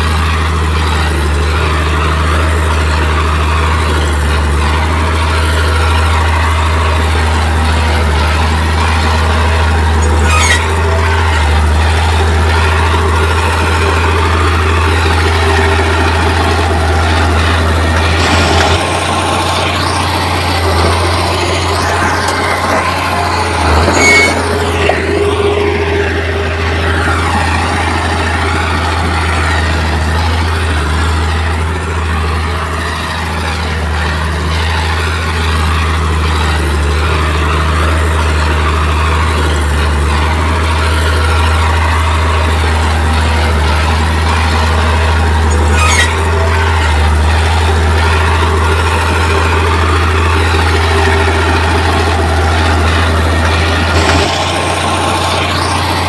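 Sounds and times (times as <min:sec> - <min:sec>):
heavy diesel engine rumbling: 0:00.0 - 0:56.0.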